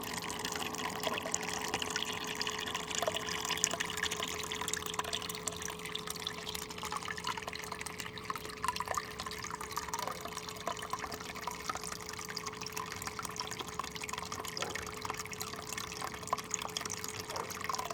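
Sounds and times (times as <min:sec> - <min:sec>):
faint steady hum: 0:00.0 - 0:17.9
water trickling and splashing: 0:00.0 - 0:17.9.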